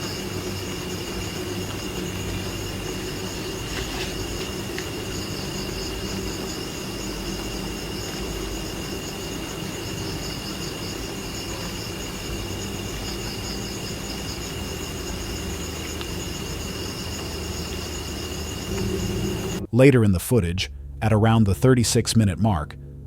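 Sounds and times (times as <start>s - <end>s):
insects chirring: 0.0s - 19.7s
low hum: 0.0s - 23.0s.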